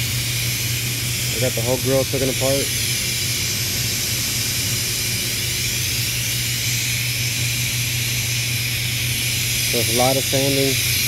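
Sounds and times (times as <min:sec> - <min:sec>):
shop machinery drone: 0:00.0 - 0:11.0.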